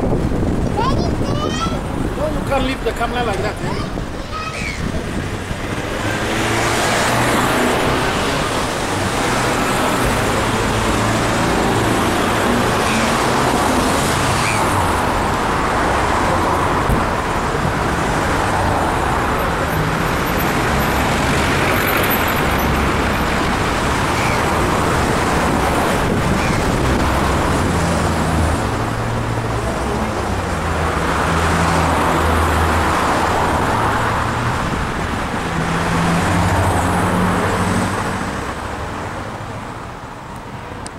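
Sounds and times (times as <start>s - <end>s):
cars driving past: 0.0s - 40.9s
steady background traffic: 0.0s - 40.9s.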